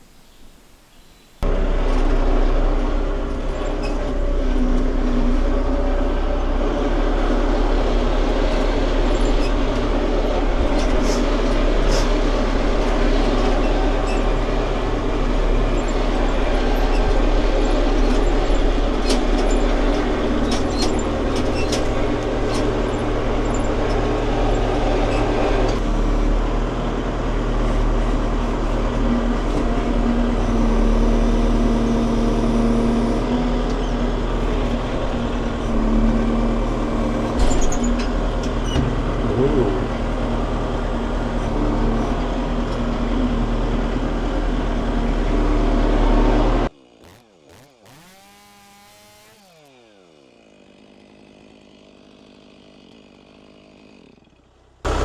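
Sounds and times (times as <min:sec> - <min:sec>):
engine running: 0:01.4 - 0:50.2, 0:54.1 - 0:55.0.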